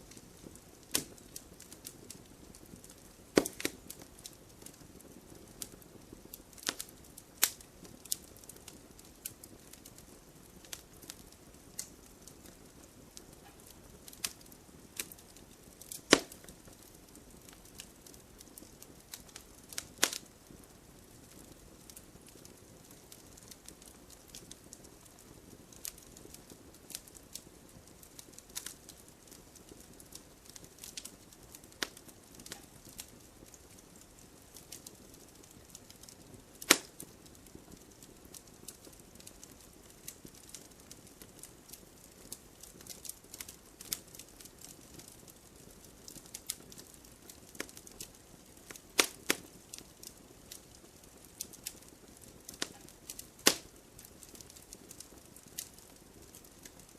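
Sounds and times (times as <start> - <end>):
firewood crackling and popping: 0.0 - 56.9
soft steady hiss: 0.0 - 56.9.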